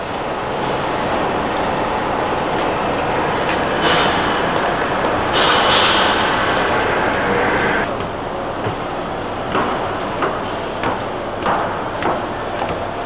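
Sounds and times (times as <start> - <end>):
station concourse noise: 0.0 - 13.0.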